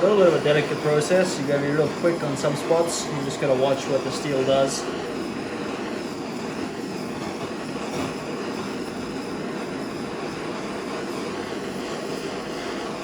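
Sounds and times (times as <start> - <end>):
blowtorch flame hissing: 0.0 - 13.0.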